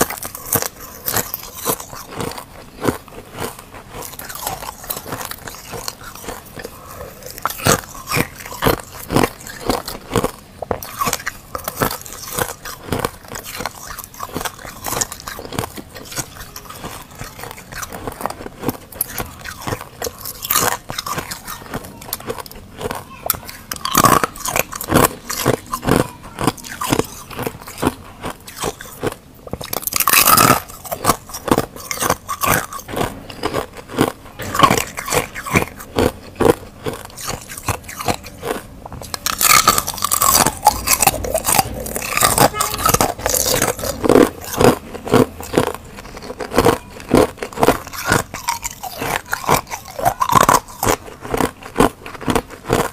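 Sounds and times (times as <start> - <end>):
ice being crunched and chewed: 0.0 - 52.9.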